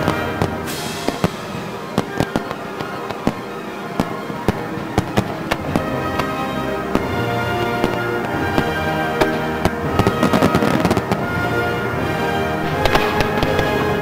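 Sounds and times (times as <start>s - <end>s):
firework shells bursting: 0.0s - 14.0s
music with sustained tones: 0.0s - 14.0s.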